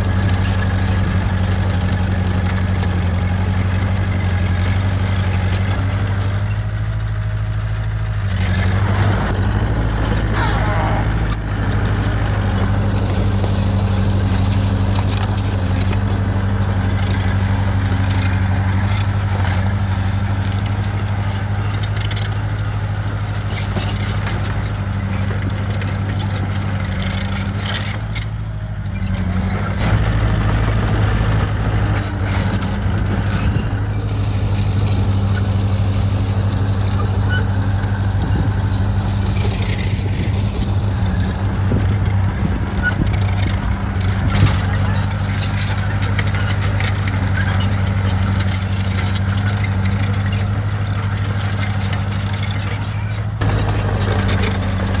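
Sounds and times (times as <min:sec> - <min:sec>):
bulldozer diesel engine running: 0:00.0 - 0:55.0
metallic clanks and clicks: 0:08.3 - 0:55.0.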